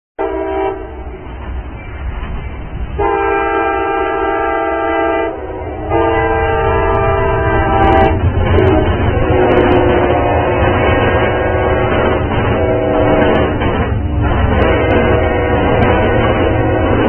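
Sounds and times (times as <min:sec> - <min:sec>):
train horn blasts: 0:00.2 - 0:01.2, 0:03.0 - 0:13.6, 0:14.5 - 0:17.0
train rumbling: 0:00.2 - 0:17.0.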